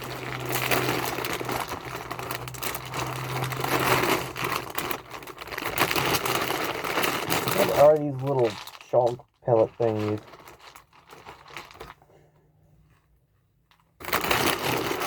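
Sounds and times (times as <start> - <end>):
dry cereal rattling as poured: 0.0 - 9.2, 9.8 - 12.0, 14.0 - 15.0.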